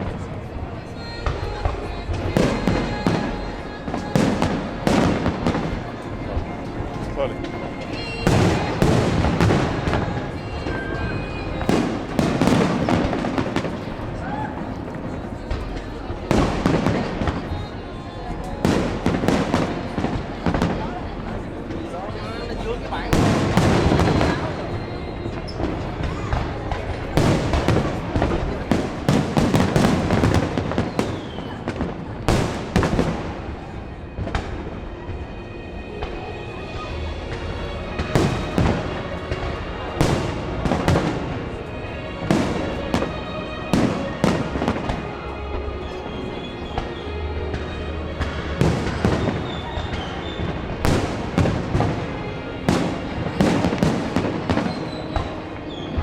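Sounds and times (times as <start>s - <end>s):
fireworks crackling and popping: 0.0s - 34.8s, 36.8s - 45.4s, 46.0s - 56.0s.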